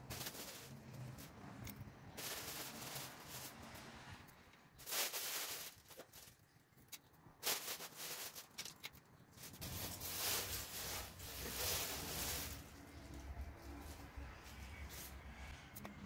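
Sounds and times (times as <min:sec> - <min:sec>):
rustling and scraping: 0:00.0 - 0:15.6.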